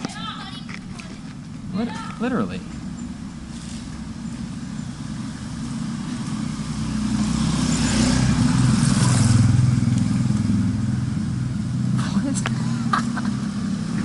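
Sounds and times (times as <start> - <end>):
vehicle engine passing by: 2.3 - 14.0.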